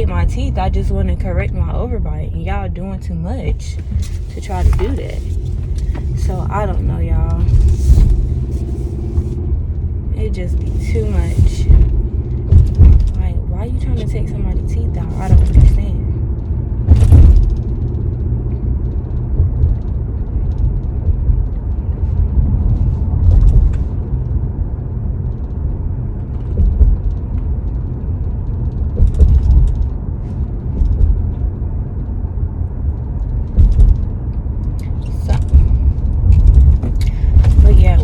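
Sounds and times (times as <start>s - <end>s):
car road rumble from inside: 0.0s - 38.0s.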